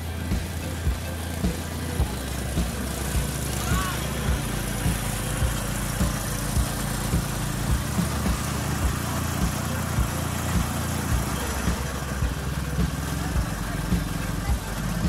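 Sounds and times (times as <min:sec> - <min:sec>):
low thumps: 0:00.0 - 0:15.0
riding lawn mower engine running: 0:00.0 - 0:15.0.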